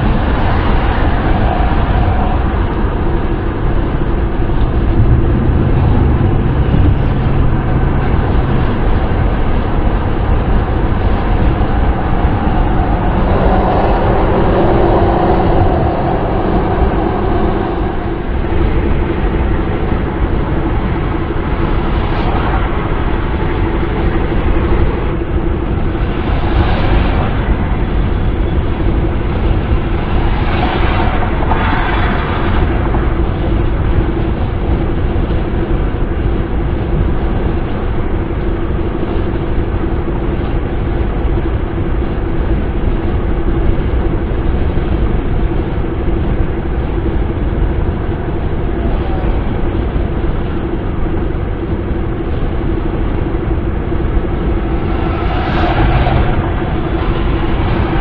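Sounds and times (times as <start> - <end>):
car wind and road noise: 0.0 - 58.0.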